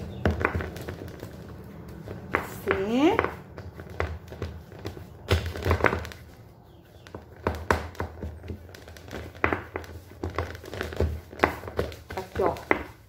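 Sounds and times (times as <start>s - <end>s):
hands pressing bread dough: 0.0s - 13.0s.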